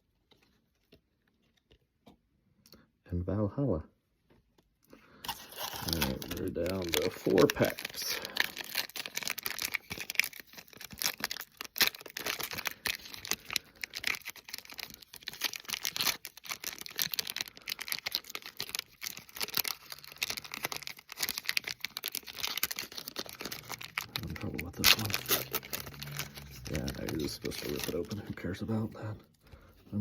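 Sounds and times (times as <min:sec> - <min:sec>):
foil wrapper crinkling and tearing: 0:05.1 - 0:29.7.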